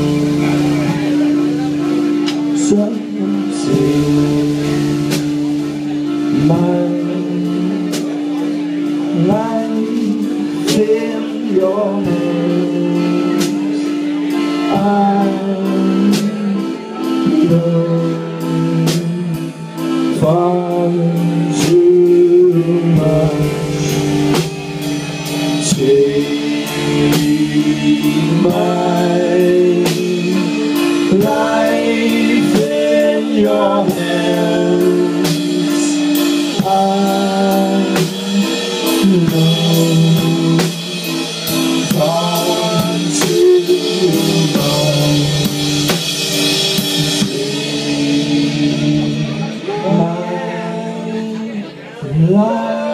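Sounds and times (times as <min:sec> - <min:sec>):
drum kit: 0:00.0 - 0:52.9
electric guitars: 0:00.0 - 0:52.9
person singing: 0:00.0 - 0:52.9.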